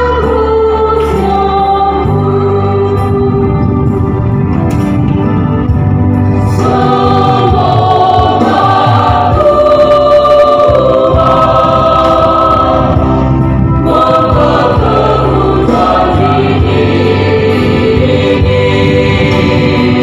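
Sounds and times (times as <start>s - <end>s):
choir singing a hymn: 0.0s - 4.0s, 6.4s - 20.0s.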